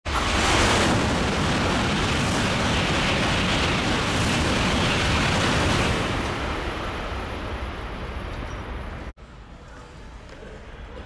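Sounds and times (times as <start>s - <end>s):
high-speed train passing: 0.1s - 9.6s.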